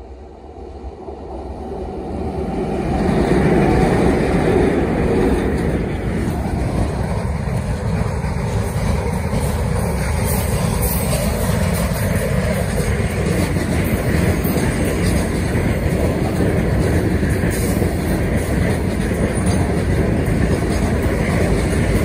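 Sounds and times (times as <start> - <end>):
electric locomotive passing: 0.0 - 22.0
train wagons rolling on rails: 0.2 - 22.0.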